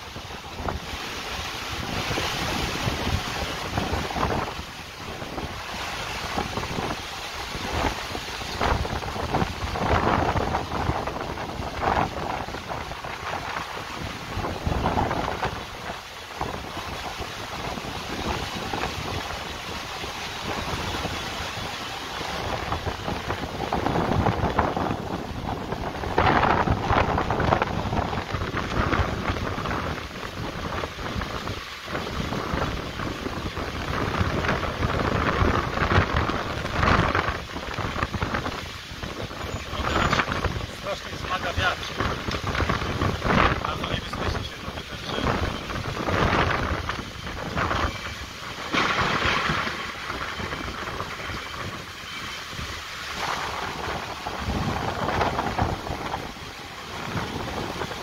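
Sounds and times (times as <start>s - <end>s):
heavy rain pouring: 0.0s - 58.0s
strong wind: 0.0s - 58.0s.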